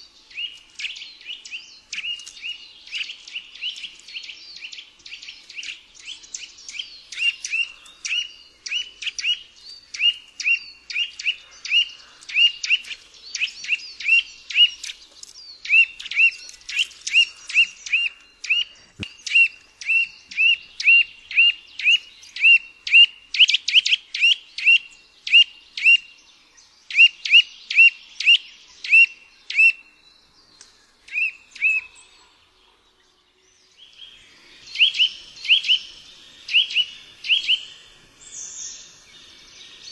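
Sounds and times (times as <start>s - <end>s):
nuthatch calling: 0.0s - 26.1s, 26.8s - 30.0s, 31.1s - 32.8s, 33.8s - 39.9s.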